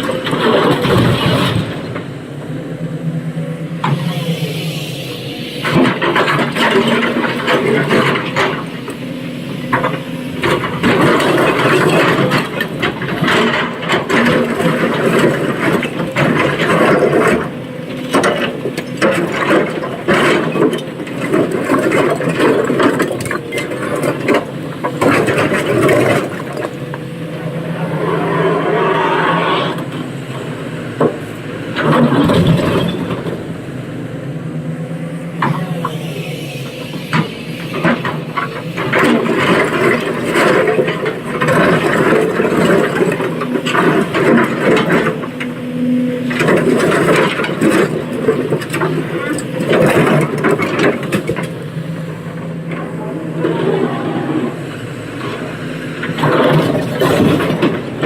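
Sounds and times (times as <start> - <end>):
excavator diesel engine working: 0.0 - 58.0.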